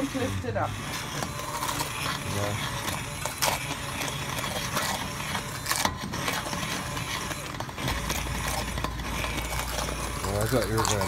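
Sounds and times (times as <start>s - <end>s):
immersion blender running: 0.0s - 11.0s.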